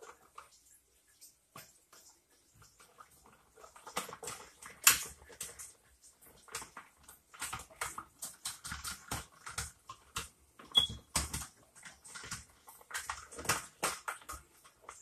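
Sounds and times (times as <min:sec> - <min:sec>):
clicks and scrapes of wires: 0:00.0 - 0:15.0.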